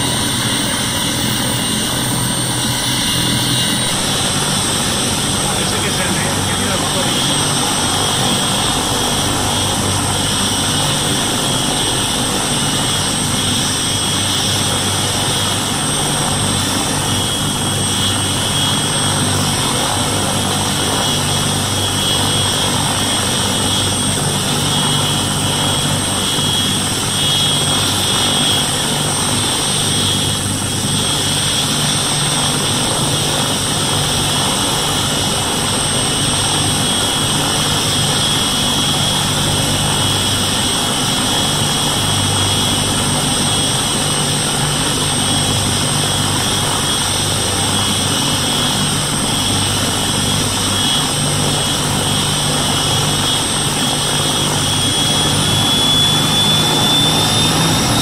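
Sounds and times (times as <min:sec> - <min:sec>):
helicopter engine whine: 0:00.0 - 0:58.0
helicopter rotors beating: 0:00.0 - 0:58.0.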